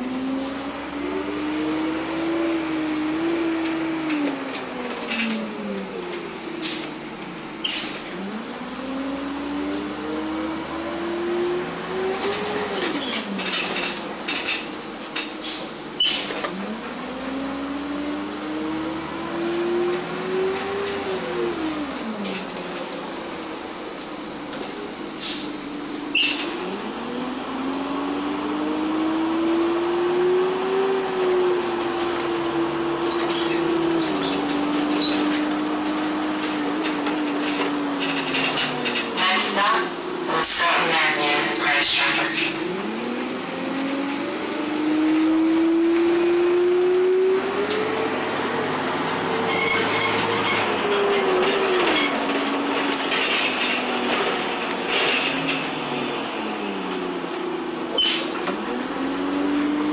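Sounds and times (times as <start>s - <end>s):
bus drivetrain whine: 0.0s - 59.9s
air-conditioning fans rushing: 11.4s - 59.9s.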